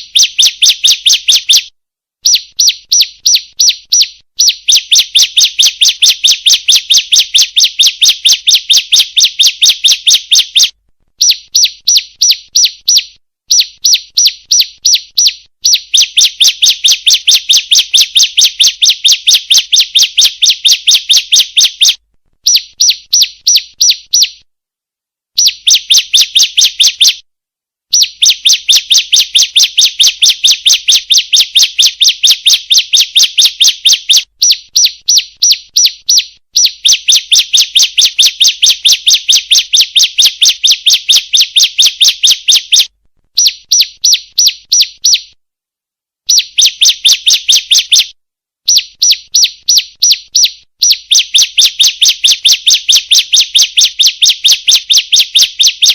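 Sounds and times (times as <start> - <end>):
bird's fast high chirps: 0.0 - 24.5, 25.4 - 27.2, 27.9 - 45.4, 46.2 - 55.9.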